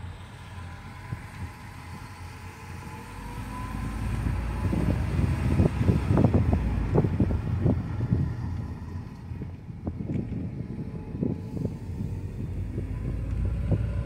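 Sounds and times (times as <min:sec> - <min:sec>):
car driving rumble: 0:00.0 - 0:14.0
wind buffeting microphone: 0:00.6 - 0:14.0.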